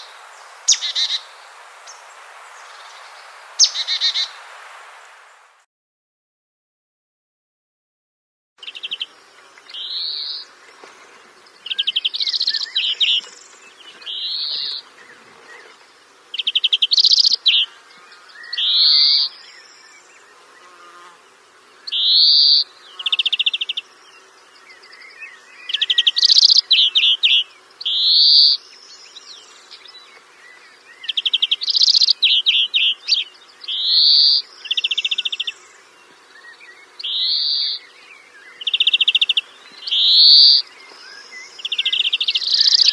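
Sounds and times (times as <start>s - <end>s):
songbird singing: 0.0s - 5.6s, 8.6s - 42.9s.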